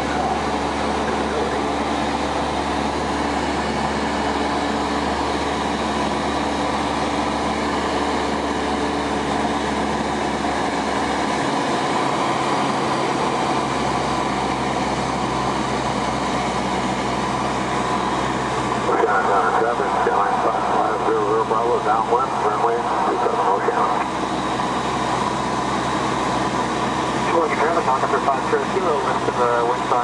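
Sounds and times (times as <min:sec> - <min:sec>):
light aircraft engine drone: 0:00.0 - 0:30.0.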